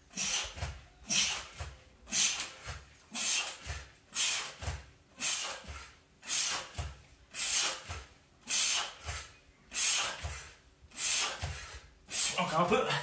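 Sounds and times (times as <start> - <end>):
person breathing out hard: 0.1 - 13.0.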